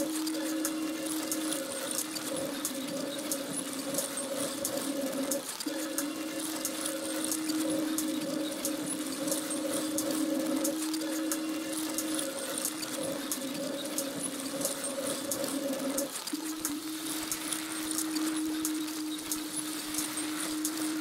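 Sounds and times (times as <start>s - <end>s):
irregular crackling clicks: 0.0s - 21.0s.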